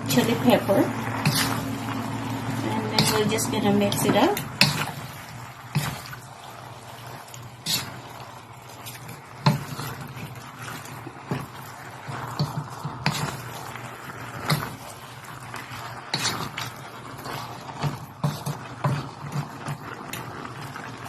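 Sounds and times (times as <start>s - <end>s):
chicken sizzling: 0.0s - 21.0s
utensil scraping and knocking pot: 0.0s - 21.0s.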